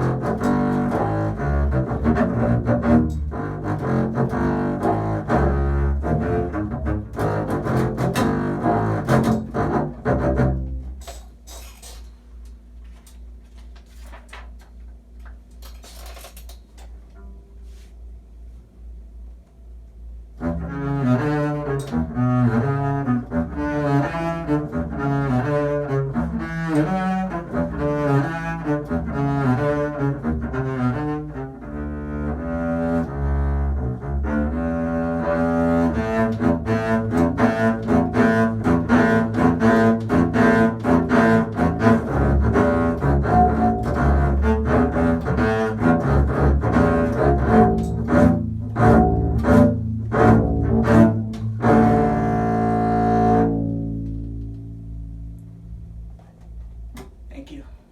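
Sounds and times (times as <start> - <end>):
bowed double bass: 0.0 - 13.6, 17.0 - 57.7.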